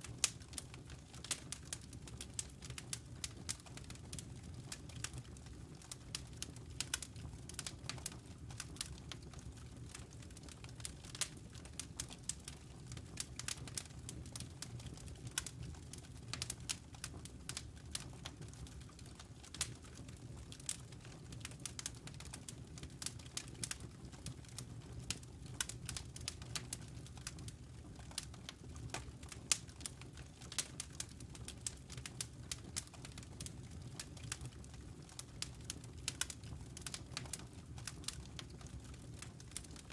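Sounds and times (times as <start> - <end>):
campfire embers crackling: 0.0 - 39.9
low fire rumble: 0.0 - 39.9.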